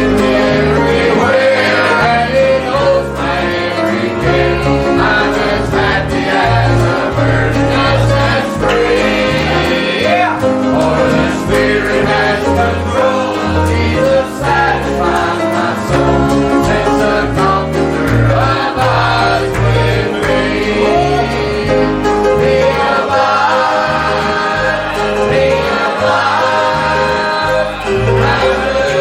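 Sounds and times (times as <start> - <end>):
instrumental accompaniment: 0.0 - 29.0
singers performing gospel song: 0.0 - 29.0
bass line: 4.2 - 29.0.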